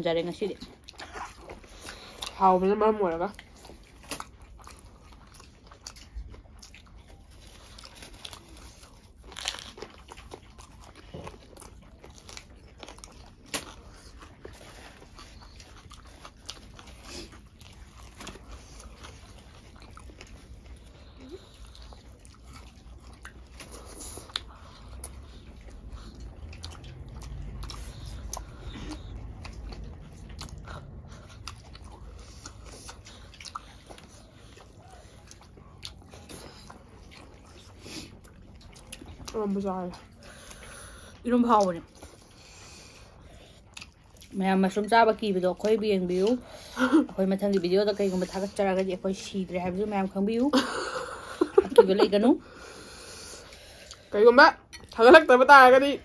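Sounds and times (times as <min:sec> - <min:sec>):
people chewing food: 0:00.0 - 0:56.0.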